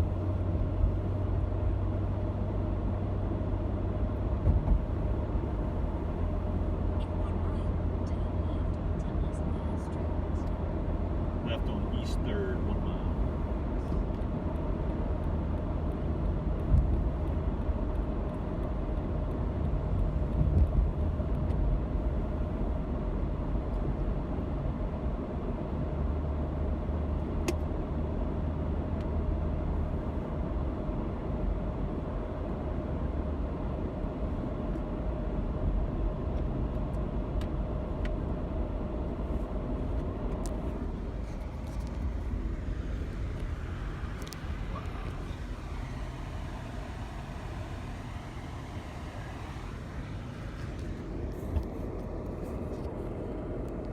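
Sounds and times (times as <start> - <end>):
car engine and road rumble: 0.0 - 53.9.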